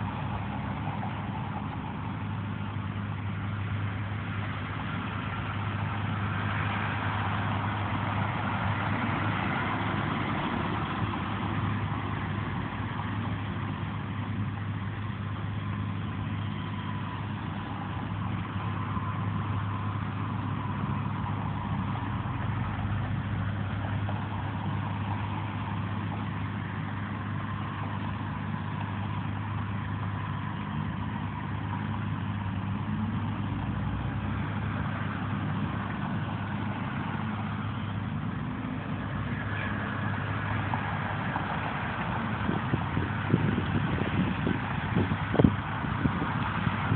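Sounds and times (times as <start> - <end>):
truck engine hum: 0.0 - 46.9.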